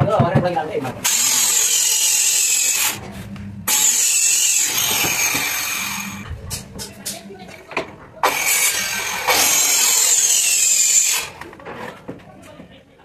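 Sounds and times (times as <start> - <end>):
circular saw cutting plywood: 1.0 - 12.0.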